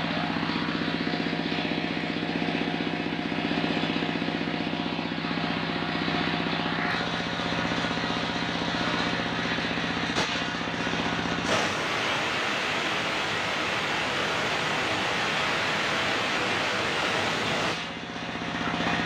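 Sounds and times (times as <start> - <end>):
engine driving circular saw: 0.0 - 19.0.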